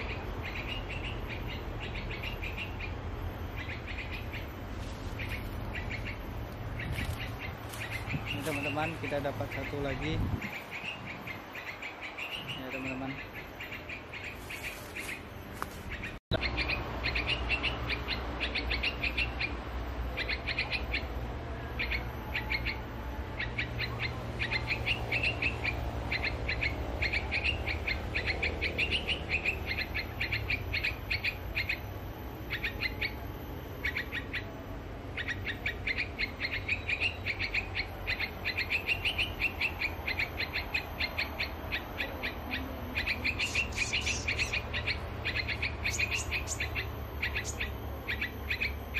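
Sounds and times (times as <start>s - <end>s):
bird chirping calls: 0.0s - 48.9s.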